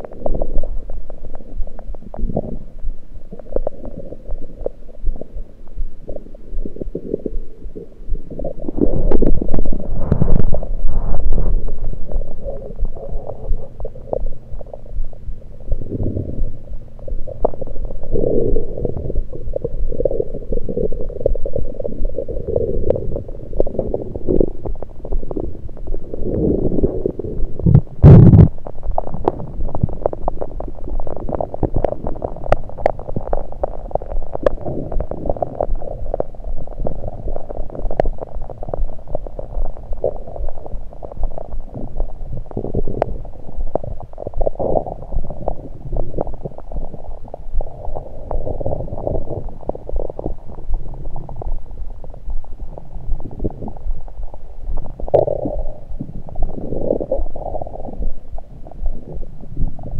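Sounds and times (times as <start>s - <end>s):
stomach gurgling: 0.0s - 59.9s.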